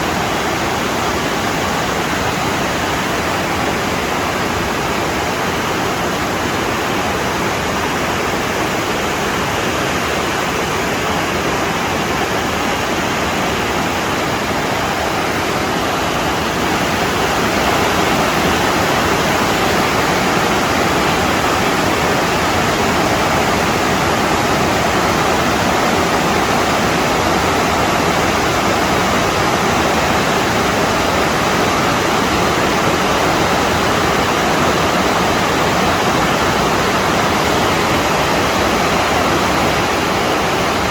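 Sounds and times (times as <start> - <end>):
water rushing over cascades: 0.0 - 40.9.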